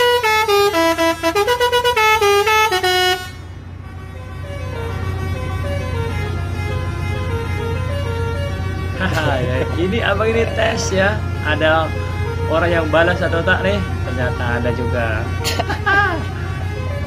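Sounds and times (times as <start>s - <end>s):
fainter horn tune: 0.0s - 17.0s
musical lorry horn tune: 0.0s - 17.0s
steady low hum: 0.1s - 17.0s.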